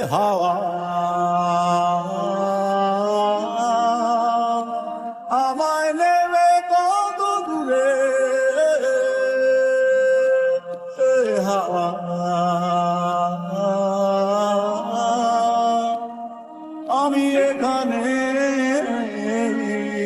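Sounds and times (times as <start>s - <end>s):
man singing over soft backing: 0.0s - 20.0s.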